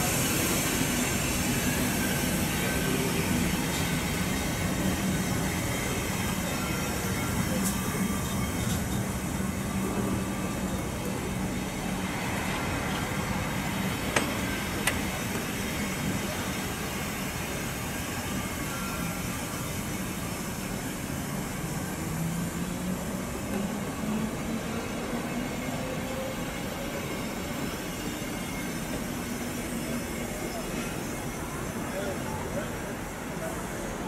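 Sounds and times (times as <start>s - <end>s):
train wheels rumbling: 0.0s - 34.0s.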